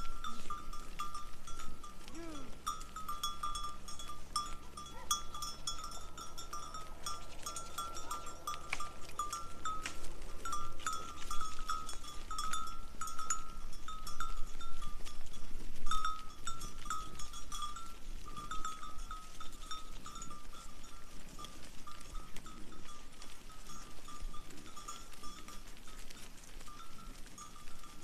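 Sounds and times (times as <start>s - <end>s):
sheep bells clanking: 0.0s - 28.0s.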